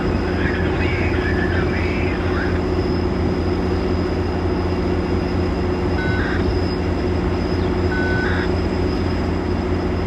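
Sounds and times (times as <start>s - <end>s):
diesel locomotive engine running: 0.0s - 10.0s.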